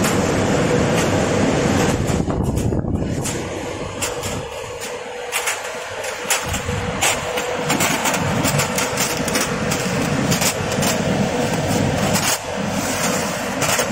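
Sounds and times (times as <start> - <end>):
machine motor hum and rumble: 0.0 - 13.9.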